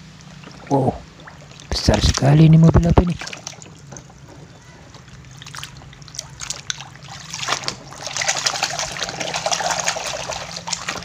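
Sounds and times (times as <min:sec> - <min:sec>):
water splashing in a basin: 0:00.3 - 0:02.2, 0:03.1 - 0:11.0.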